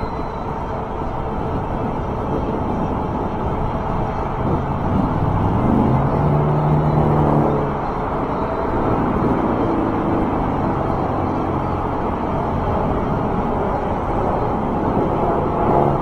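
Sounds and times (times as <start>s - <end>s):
highway traffic rushing: 0.0s - 16.0s
low engine-like hum: 0.0s - 16.0s.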